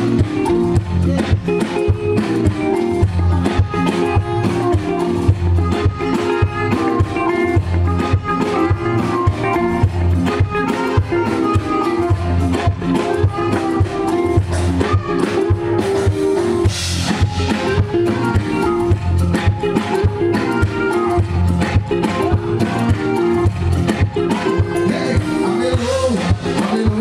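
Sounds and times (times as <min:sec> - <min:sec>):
band playing instrumental groove: 0:00.0 - 0:27.0.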